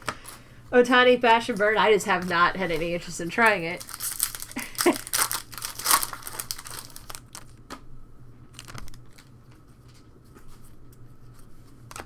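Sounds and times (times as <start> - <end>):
plastic wrapper crinkling: 0.0 - 7.9, 8.5 - 10.6.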